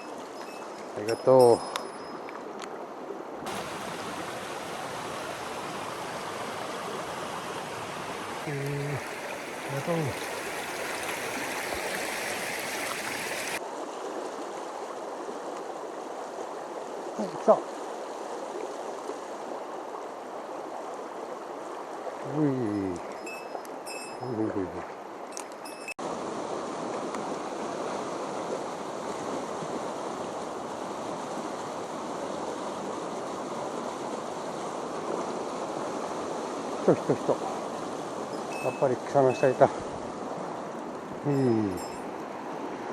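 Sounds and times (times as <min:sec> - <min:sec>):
stream rushing over rocks: 0:03.4 - 0:23.2, 0:26.0 - 0:42.9.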